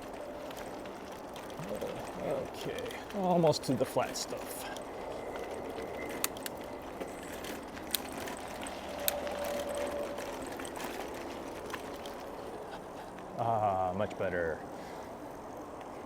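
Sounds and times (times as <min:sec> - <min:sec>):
bike clicks and rattles: 0:00.0 - 0:13.8
bicycle tyres rumbling on trail: 0:00.0 - 0:16.0.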